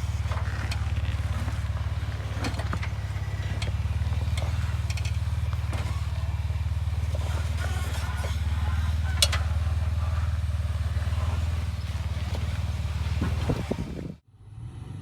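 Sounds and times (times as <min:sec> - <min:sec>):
sharp clicks and knocks: 0:00.0 - 0:13.8
engine running at low revs: 0:00.0 - 0:15.0.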